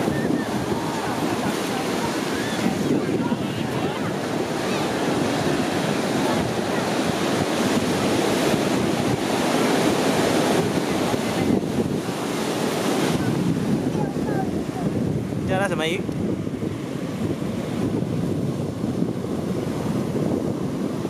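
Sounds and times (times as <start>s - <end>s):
ocean surf washing ashore: 0.0s - 21.0s
wind on microphone: 0.0s - 21.0s.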